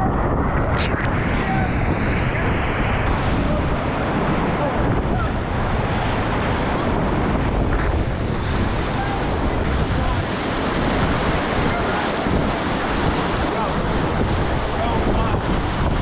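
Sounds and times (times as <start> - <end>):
whitewater rapids rushing: 2.4 - 16.0.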